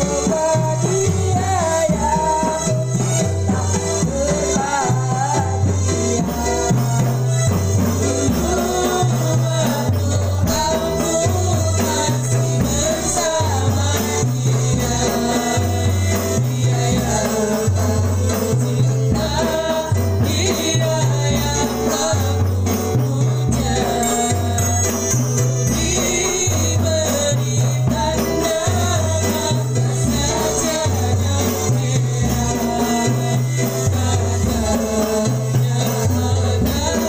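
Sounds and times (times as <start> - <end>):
frame drums: 0.0 - 37.0
hand drum: 0.0 - 37.0
woman singing into a microphone: 0.0 - 37.0.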